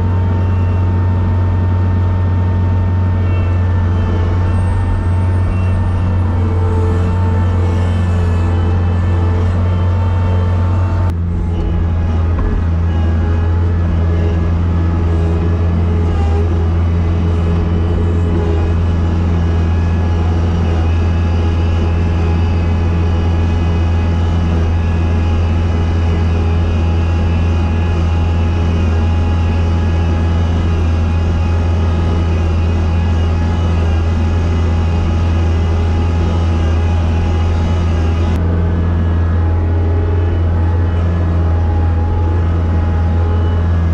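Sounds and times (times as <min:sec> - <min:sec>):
snow plow engine droning: 0:00.0 - 0:43.9.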